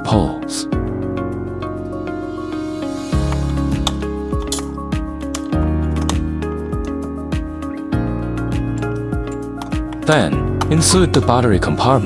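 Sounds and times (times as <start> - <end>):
background music with steady beat: 0.8 - 12.0.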